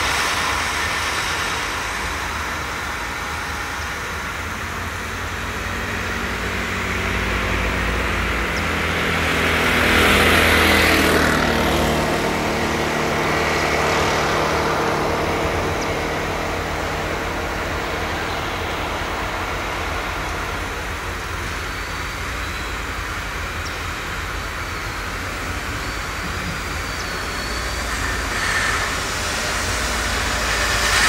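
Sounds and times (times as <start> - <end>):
tractor engines running: 0.0 - 31.0.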